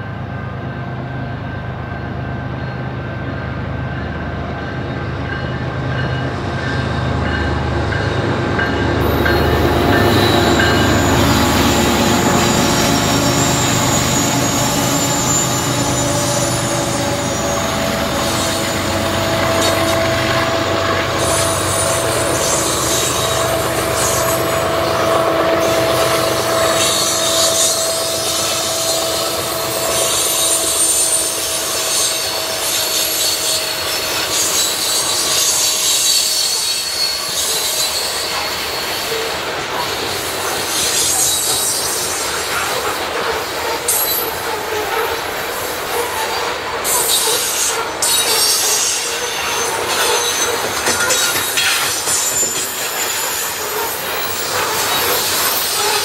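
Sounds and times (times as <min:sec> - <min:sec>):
diesel locomotive engines rumbling: 0:00.0 - 0:56.0
train wheels on rails: 0:00.0 - 0:56.0
high wheel squeal: 0:09.0 - 0:56.0.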